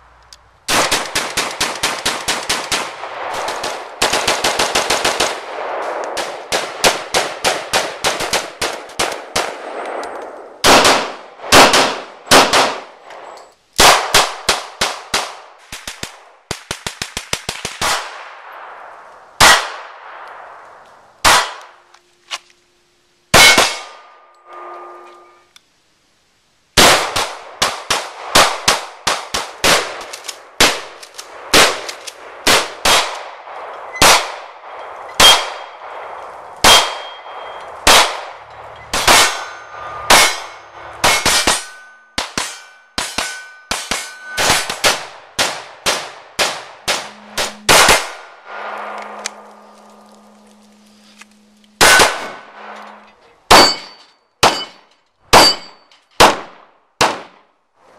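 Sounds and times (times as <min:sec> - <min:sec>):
pistol shots with echo: 0:00.7 - 0:13.0, 0:13.8 - 0:20.5, 0:21.2 - 0:21.8, 0:23.4 - 0:24.2, 0:26.8 - 0:49.2, 0:51.8 - 0:52.7, 0:53.5 - 0:57.5.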